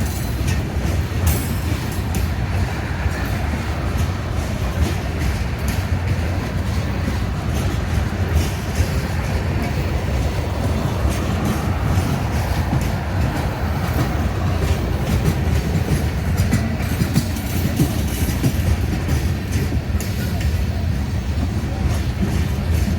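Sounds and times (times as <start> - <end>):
train cars rumbling past: 0.0 - 22.9
wheels clattering on rails: 0.0 - 22.9.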